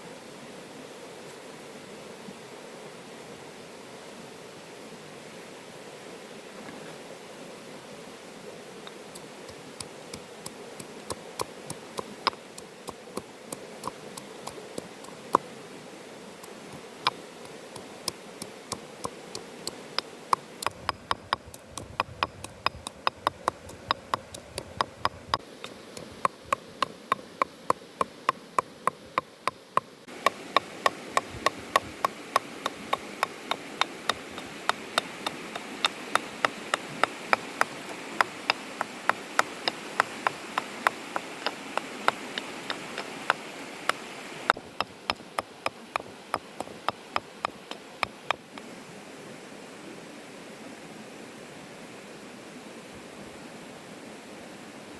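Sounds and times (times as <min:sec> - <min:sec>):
faint outdoor hiss: 0:00.0 - 0:54.9.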